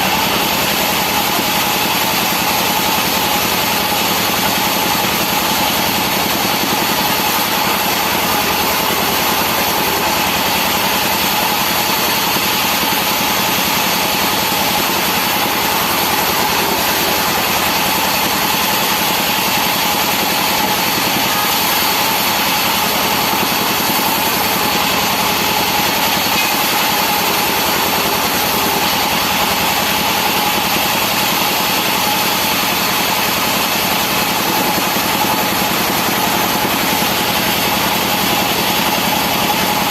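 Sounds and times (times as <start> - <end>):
sawmill saw humming: 0.0 - 39.9.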